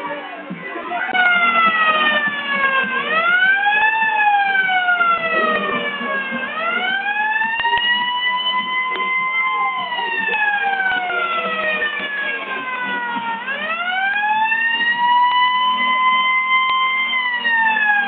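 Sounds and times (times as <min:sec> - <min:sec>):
wailing siren: 0:00.0 - 0:18.0.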